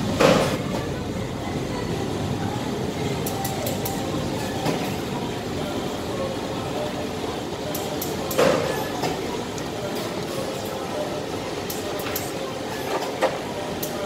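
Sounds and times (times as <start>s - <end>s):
workshop din: 0.0s - 14.0s.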